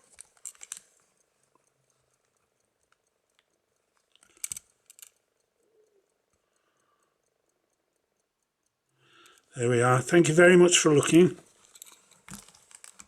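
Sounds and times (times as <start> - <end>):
pocket watch ticking: 0.0 - 13.0.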